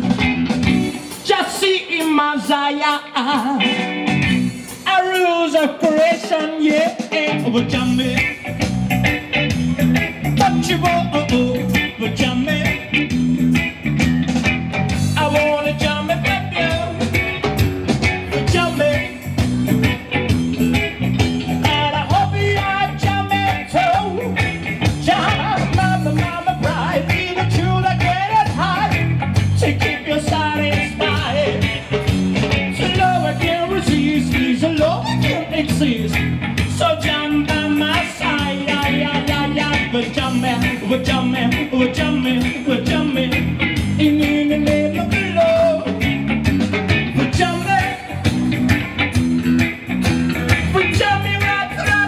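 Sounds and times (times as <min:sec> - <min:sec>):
drums beating: 0:00.0 - 0:02.1, 0:03.6 - 0:52.0
electric bass: 0:00.0 - 0:06.0, 0:06.8 - 0:52.0
electric guitar with bending melody: 0:00.0 - 0:52.0.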